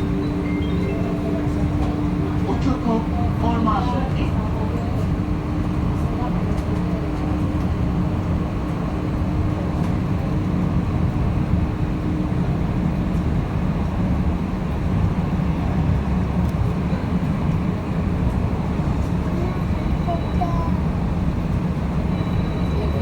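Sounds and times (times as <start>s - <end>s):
tram wheels rumbling on rail: 0.0s - 23.0s.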